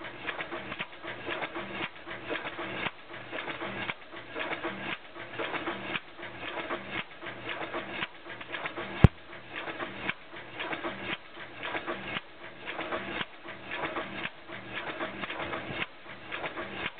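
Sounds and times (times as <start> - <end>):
stationary engine clattering: 0.0 - 16.9.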